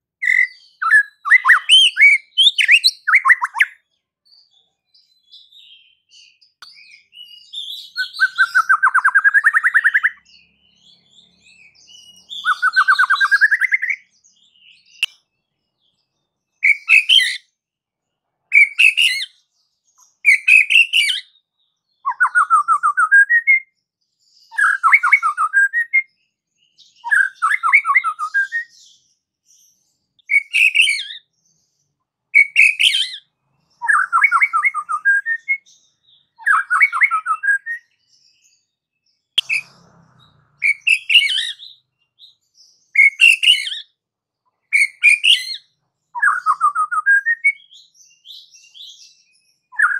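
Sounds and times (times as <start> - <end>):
bird singing trills and whistles: 0.2 - 17.5, 18.5 - 44.0, 44.6 - 49.9.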